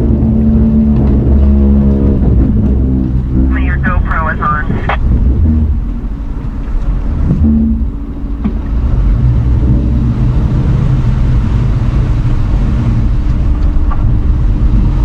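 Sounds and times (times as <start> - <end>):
engine and drivetrain rumble: 0.0 - 15.0.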